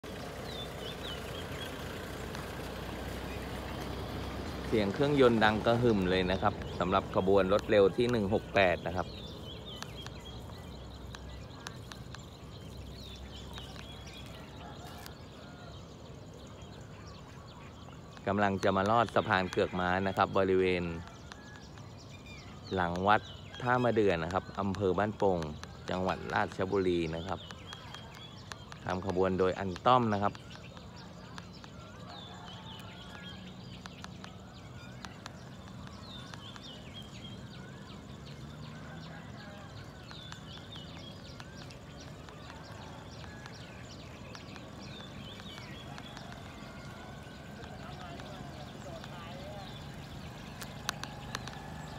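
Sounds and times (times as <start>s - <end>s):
sharp ticks: 0.0s - 15.2s, 17.9s - 51.9s
distant locomotive rumble: 0.0s - 51.9s
small birds chirping: 0.0s - 51.9s
sharp clicks: 3.6s - 15.3s, 18.0s - 51.9s.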